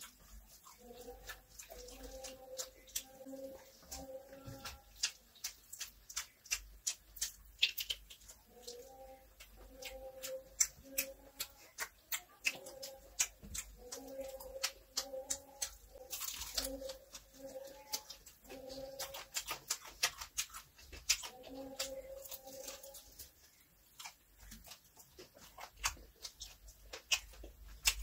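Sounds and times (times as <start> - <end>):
wet chewing and lip smacks: 0.0 - 28.0.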